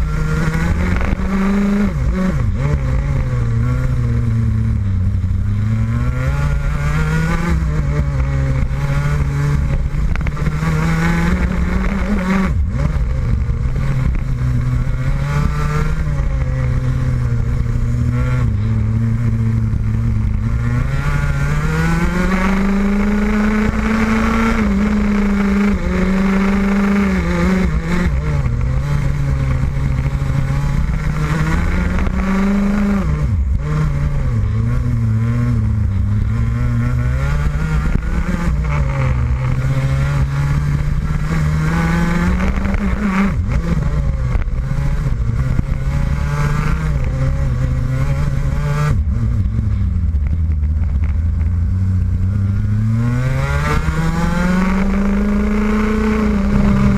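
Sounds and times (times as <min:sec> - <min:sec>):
kart engine accelerating and decelerating: 0:00.0 - 0:56.9.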